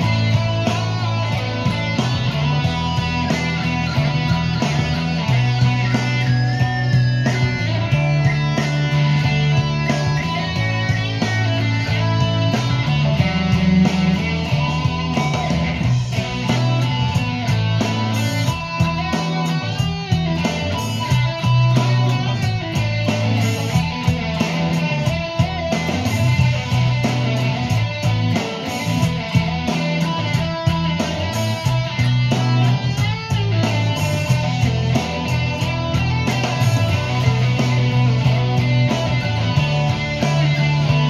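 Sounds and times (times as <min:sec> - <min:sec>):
backing track: 0:00.0 - 0:41.0
electric guitar playing rock: 0:00.0 - 0:41.0
held low bass notes: 0:00.0 - 0:41.0.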